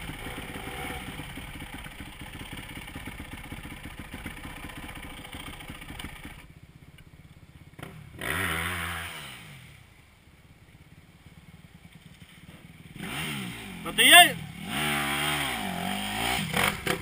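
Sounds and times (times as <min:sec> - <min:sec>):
dirt bike engine revving: 0:00.0 - 0:06.5, 0:07.7 - 0:09.9, 0:11.9 - 0:17.0
dirt bike engine idling: 0:00.0 - 0:17.0.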